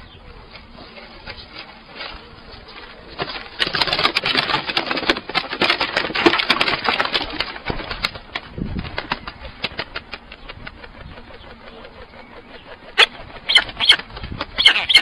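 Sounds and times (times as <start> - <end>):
bird wings flapping: 1.4 - 15.0.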